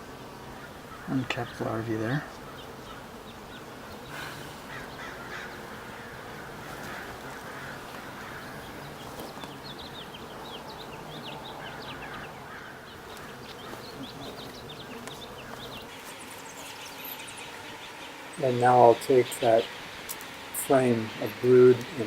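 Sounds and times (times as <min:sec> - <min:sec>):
bees humming: 0:00.0 - 0:22.0.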